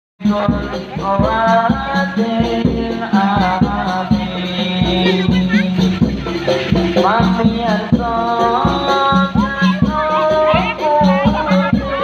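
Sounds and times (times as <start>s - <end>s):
drum beat: 0.2s - 12.0s
held melody line: 0.2s - 12.0s.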